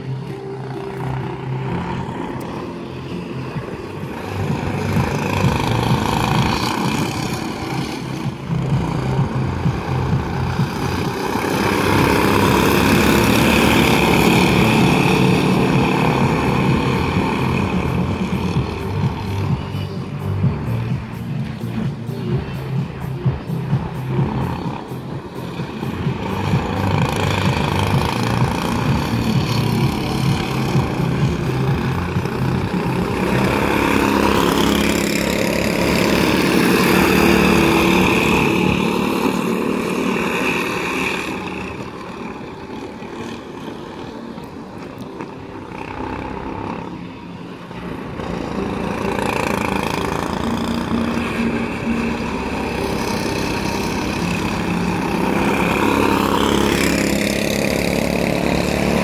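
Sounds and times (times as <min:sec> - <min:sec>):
go-kart engines racing: 0:00.0 - 0:59.0.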